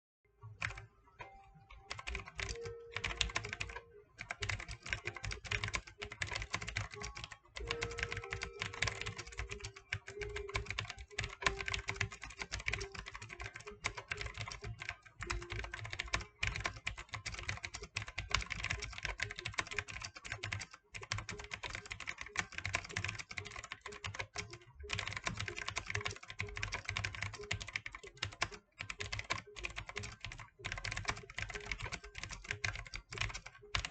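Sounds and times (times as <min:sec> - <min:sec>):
mechanical keyboard typing: 0:00.5 - 0:33.9.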